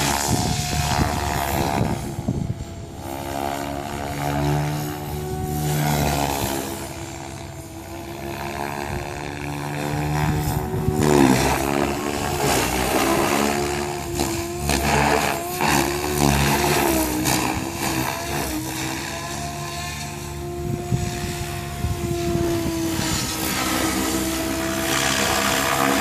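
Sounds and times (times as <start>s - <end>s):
rc helicopter rotor whine: 0.0s - 26.0s.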